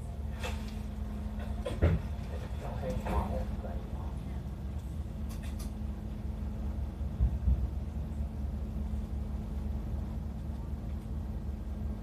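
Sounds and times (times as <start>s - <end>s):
bus running low rumble: 0.0s - 12.0s.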